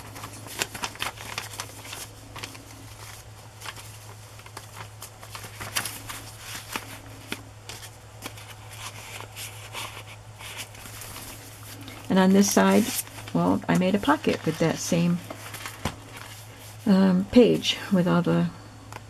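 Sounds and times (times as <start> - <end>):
paper rustling and crinkling: 0.0 - 16.9.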